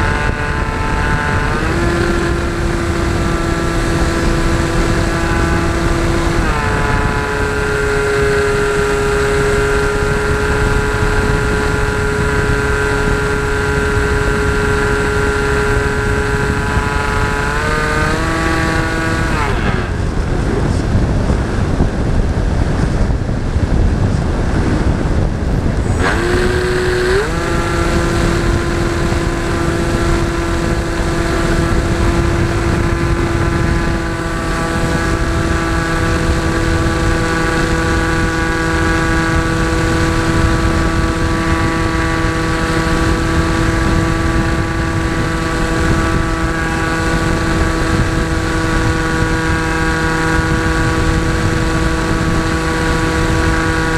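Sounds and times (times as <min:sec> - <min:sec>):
model airplane motor whine: 0:00.0 - 0:20.2, 0:25.8 - 0:53.9
wind rushing over microphone: 0:00.0 - 0:53.9.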